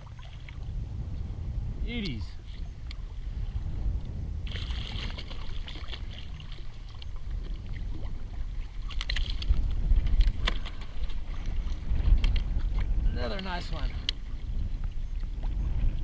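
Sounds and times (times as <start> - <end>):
water sloshing against kayak: 0.0 - 16.0
wind buffeting microphone: 0.0 - 16.0.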